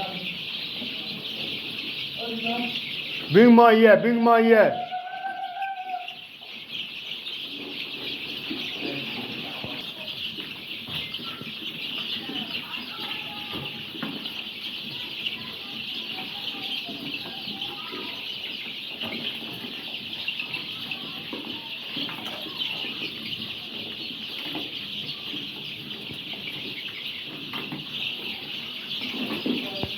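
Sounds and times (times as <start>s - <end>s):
chick chirps: 0.0s - 29.9s
chicks peeping: 0.0s - 29.9s.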